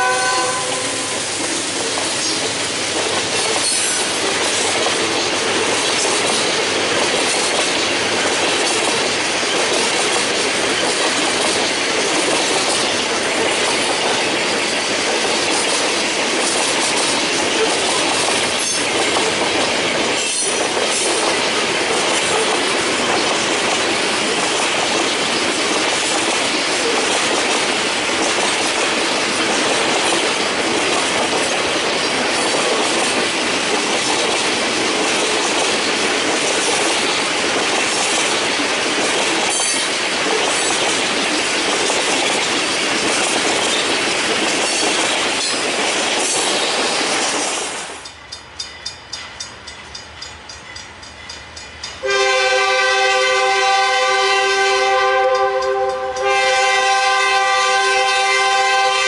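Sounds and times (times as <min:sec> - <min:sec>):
freight train wheels clattering: 0:00.0 - 0:54.6, 0:55.2 - 0:59.0.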